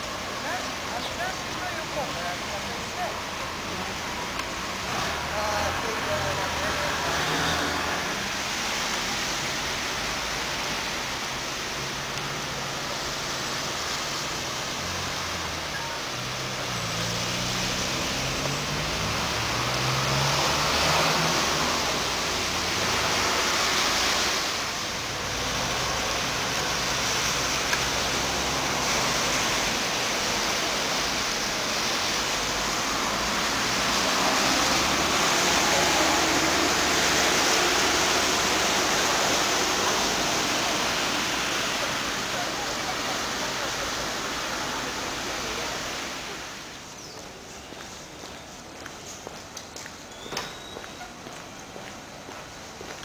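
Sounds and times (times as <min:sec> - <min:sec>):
traffic hiss on wet road: 0:00.0 - 0:53.0
vehicle engine hum passing: 0:04.6 - 0:12.7, 0:13.4 - 0:49.8.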